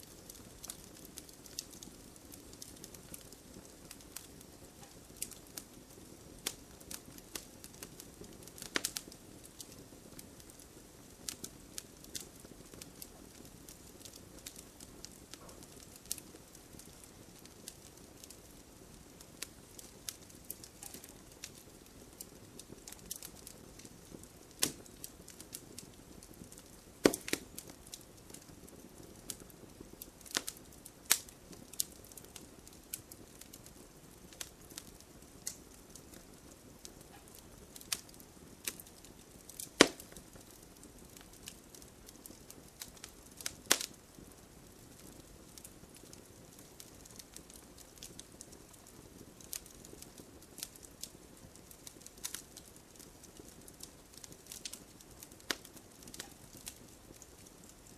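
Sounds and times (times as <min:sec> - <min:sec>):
sharp pops of fire: 0:00.0 - 0:57.9
wood fire crackling: 0:00.0 - 0:57.9.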